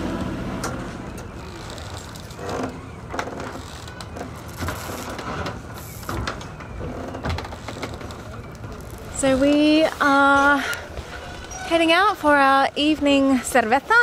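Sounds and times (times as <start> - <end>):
boat engine drone: 0.0 - 12.1
faint voices: 0.9 - 14.0.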